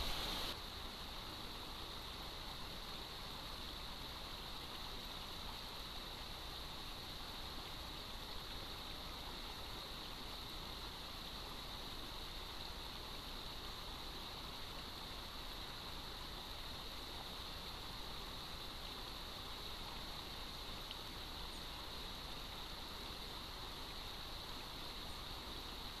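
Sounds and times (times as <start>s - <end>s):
microphone hiss: 0.0s - 26.0s
river flowing over stones: 0.0s - 26.0s.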